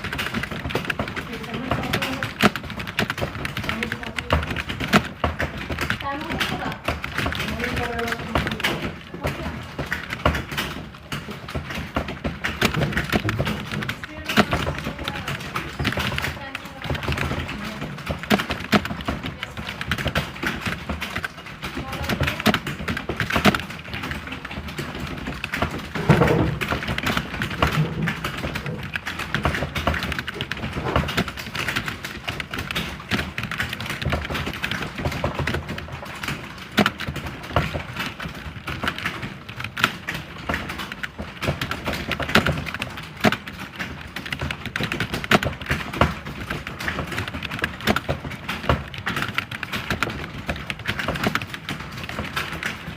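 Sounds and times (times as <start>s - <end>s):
keyboard typing: 0.0s - 52.9s.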